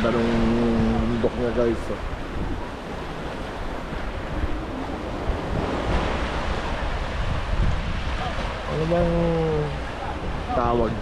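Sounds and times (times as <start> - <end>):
waves washing over rocks: 0.0 - 11.0
wind buffeting microphone: 0.0 - 11.0.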